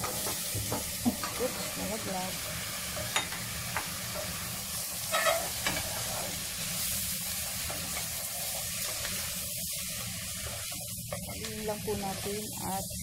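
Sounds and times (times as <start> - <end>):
squash sizzling in hot oil: 0.0 - 13.0.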